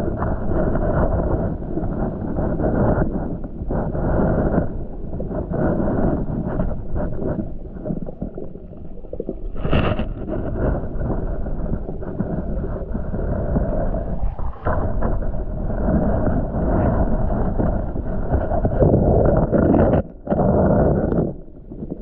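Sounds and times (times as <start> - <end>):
muffled underwater rumble: 0.0 - 22.0
water swish: 0.0 - 22.0.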